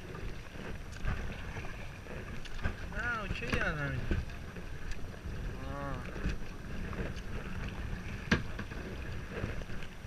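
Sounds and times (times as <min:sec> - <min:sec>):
paddle knocking hull: 0:00.0 - 0:10.0
water noise: 0:00.0 - 0:10.0
wind rumbling on microphone: 0:00.0 - 0:10.0.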